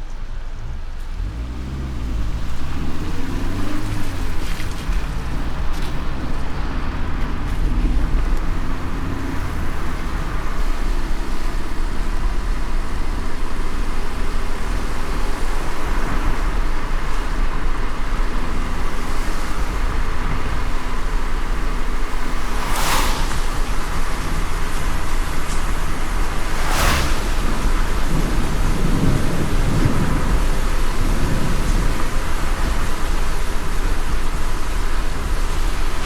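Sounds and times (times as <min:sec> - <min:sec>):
car rumbling on road: 0:00.0 - 0:36.0
rain and wet tyres hissing: 0:00.0 - 0:36.0.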